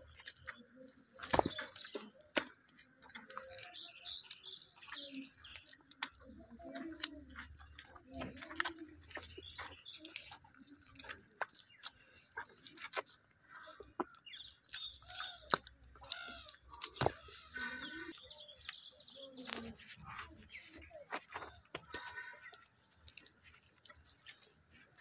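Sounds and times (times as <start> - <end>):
birds chirping: 0.0 - 25.0
calf suckling: 0.0 - 25.0.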